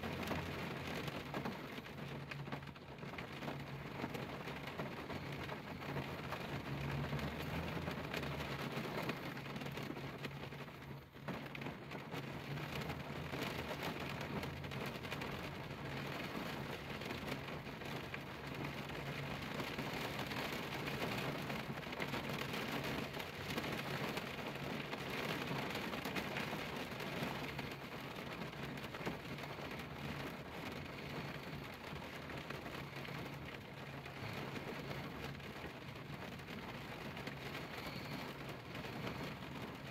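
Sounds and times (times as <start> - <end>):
rain on car windshield: 0.0 - 39.9.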